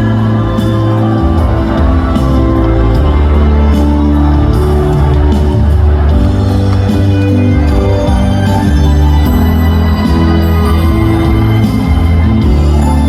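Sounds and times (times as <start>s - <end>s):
audience shouting: 0.0s - 13.0s
live band playing: 0.0s - 13.0s.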